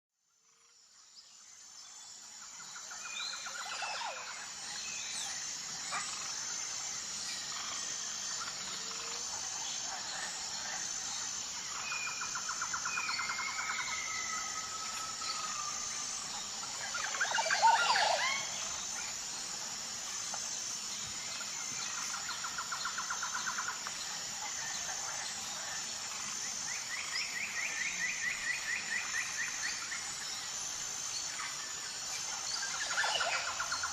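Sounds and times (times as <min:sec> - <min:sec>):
steady high buzz: 0:00.5 - 0:33.9.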